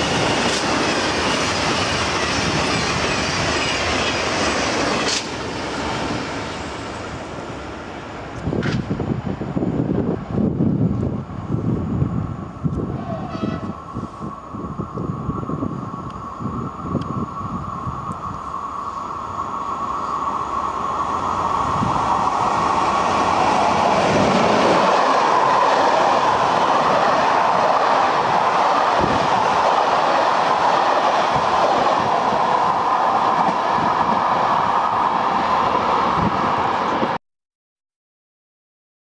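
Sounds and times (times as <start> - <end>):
train wheels rumbling on rails: 0.0 - 37.2.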